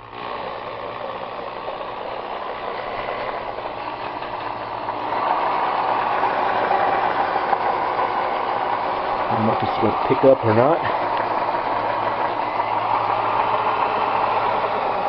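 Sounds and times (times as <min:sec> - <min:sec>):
transmission mechanical whir: 0:00.0 - 0:15.0.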